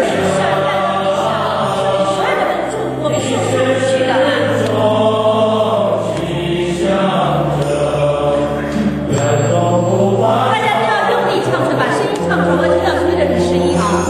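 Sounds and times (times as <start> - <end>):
men's choir chanting: 0.0 - 14.0.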